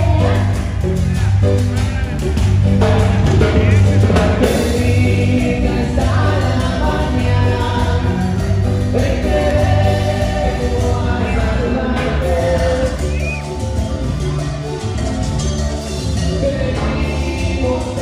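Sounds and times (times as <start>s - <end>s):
voices singing: 0.0s - 14.8s, 15.8s - 18.0s
loud music with heavy bass: 0.0s - 18.0s.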